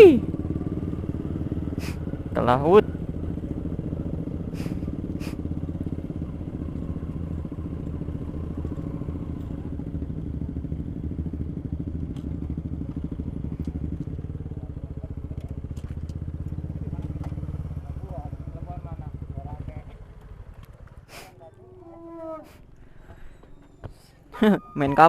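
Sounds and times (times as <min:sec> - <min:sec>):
motorcycle engine running: 0:00.0 - 0:23.8.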